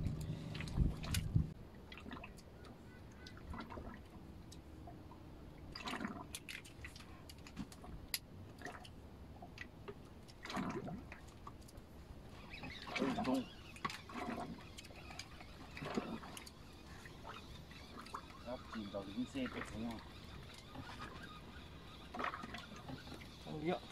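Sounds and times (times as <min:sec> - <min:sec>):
soft splashes: 0:00.0 - 0:23.9
water lapping against boat hull: 0:00.0 - 0:23.9.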